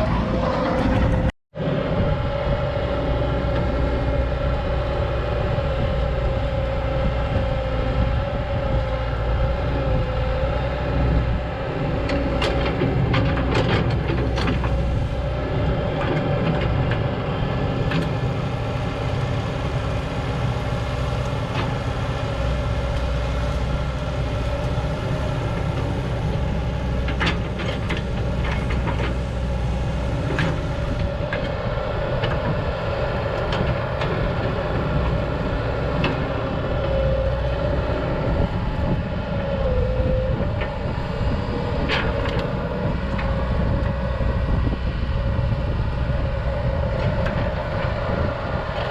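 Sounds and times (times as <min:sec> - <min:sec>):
excavator engine and hydraulics whine: 0:00.0 - 0:48.9.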